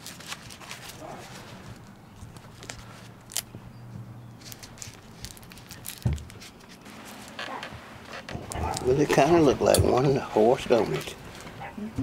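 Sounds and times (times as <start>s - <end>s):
plastic and tape crinkling: 0.0s - 3.6s, 4.3s - 11.7s.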